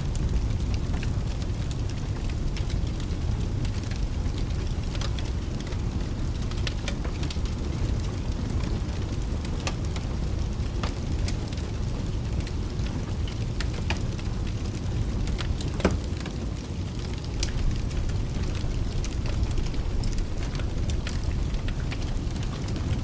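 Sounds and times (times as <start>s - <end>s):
fireplace crackling and popping: 0.0s - 23.0s
steady rain: 0.0s - 23.0s.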